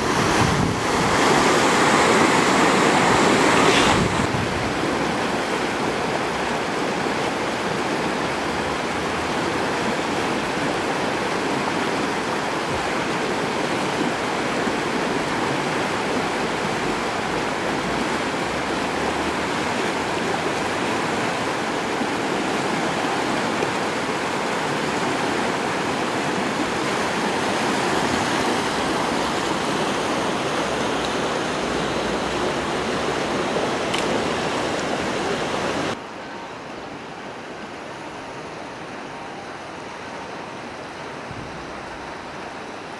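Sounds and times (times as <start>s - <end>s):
creek rushing: 0.0s - 42.9s.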